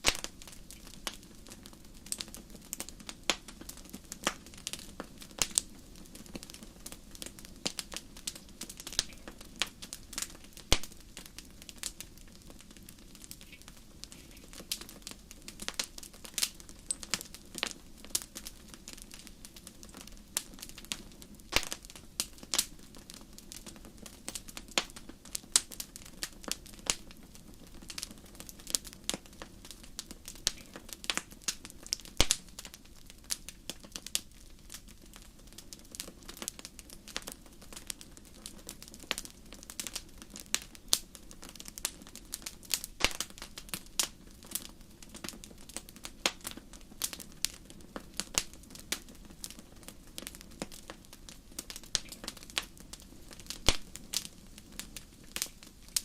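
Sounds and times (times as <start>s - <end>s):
wood crackling and popping: 0.0s - 56.0s.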